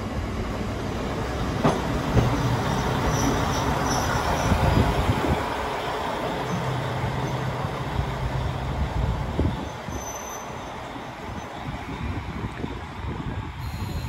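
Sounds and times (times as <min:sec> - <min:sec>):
diesel railcar engine humming: 0:00.0 - 0:14.0.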